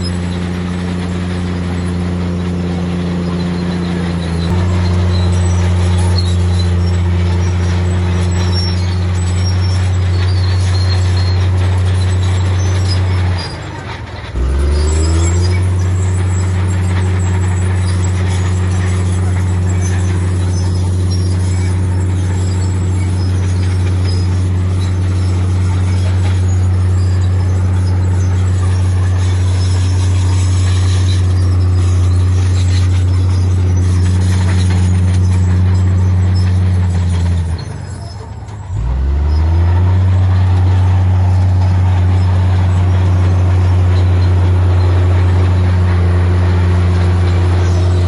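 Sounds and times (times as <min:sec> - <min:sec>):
heavy diesel engine droning: 0:00.0 - 0:48.0.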